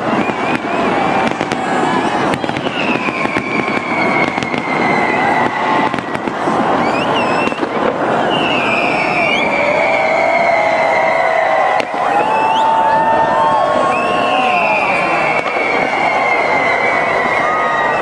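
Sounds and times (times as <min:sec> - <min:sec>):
fireworks crackling and popping: 0:00.0 - 0:18.0
fireworks whistles: 0:00.0 - 0:18.0.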